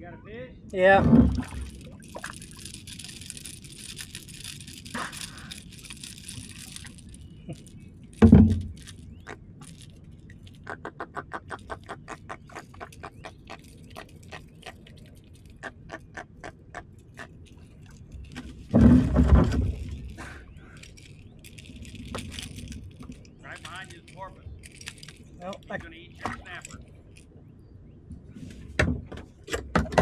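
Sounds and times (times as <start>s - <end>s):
fish croaking clicks: 1.3s - 27.3s.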